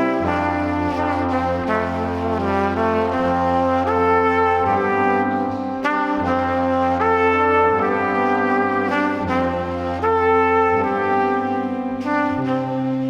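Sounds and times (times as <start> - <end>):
brass instruments playing chords: 0.0 - 13.0.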